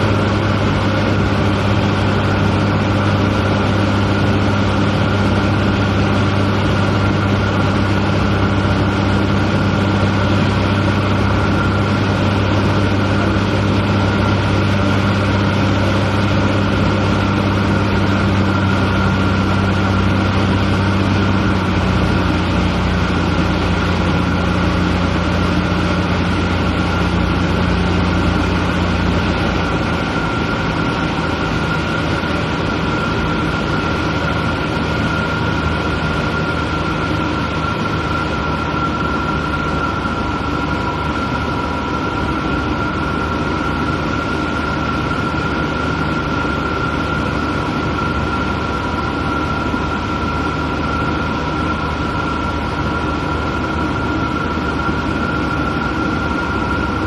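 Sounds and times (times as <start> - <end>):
airplane engine and propeller drone: 0.0 - 57.0
high whine: 0.0 - 57.0.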